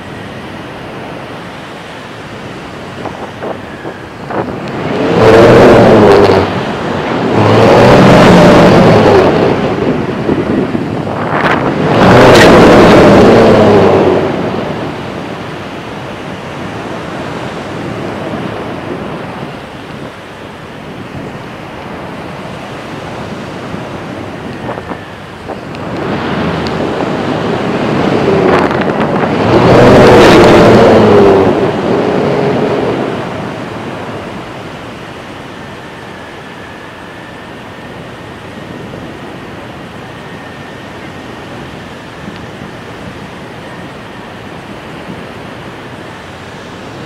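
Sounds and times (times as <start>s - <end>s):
surf: 0.0s - 47.0s
wind buffeting microphone: 0.0s - 47.0s.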